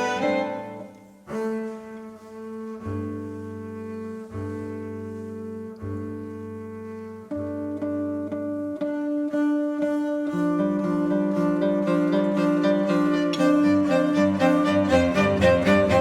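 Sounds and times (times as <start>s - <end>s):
bowed strings playing slow chords: 0.0s - 16.0s
double bass long low notes: 0.2s - 16.0s.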